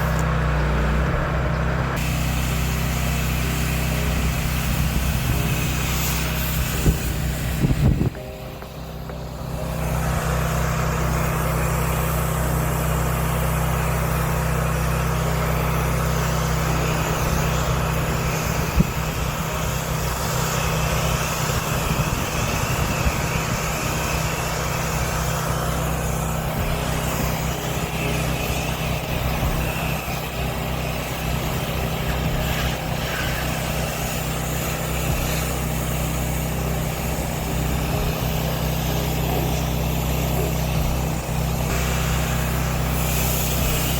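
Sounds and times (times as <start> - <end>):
engine running steadily: 0.0 - 43.9
pressure washer hiss: 1.9 - 43.9.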